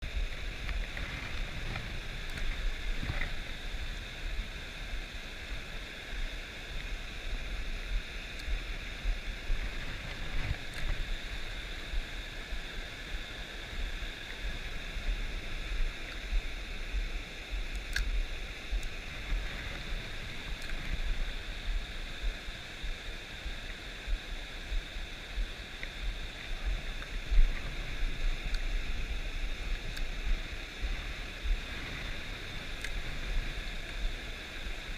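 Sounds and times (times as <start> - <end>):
stream water rushing: 0.0 - 34.9
wind rumbling on microphone: 0.0 - 34.9.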